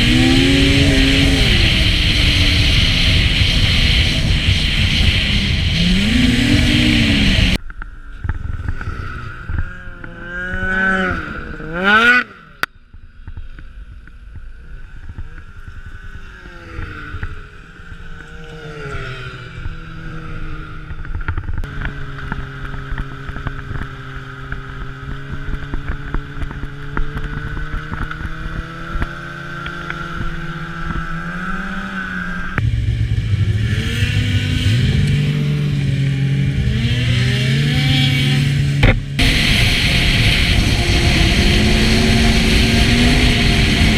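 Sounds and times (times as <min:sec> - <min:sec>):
snowmobile engines running: 0:00.0 - 0:43.9.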